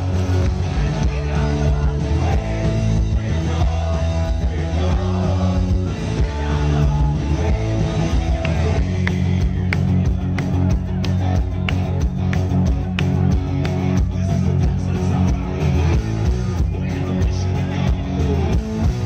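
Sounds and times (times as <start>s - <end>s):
live punk rock band: 0.0s - 19.0s.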